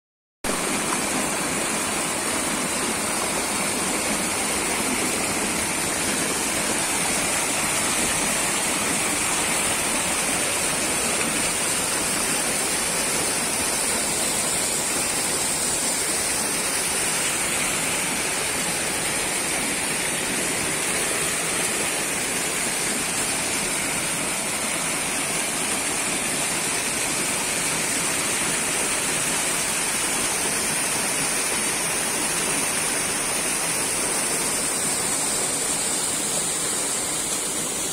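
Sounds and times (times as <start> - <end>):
small waterfall splashing: 0.4 - 37.9.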